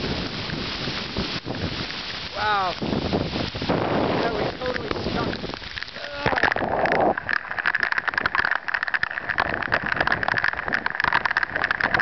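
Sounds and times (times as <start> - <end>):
rain hitting microphone: 0.0 - 12.0.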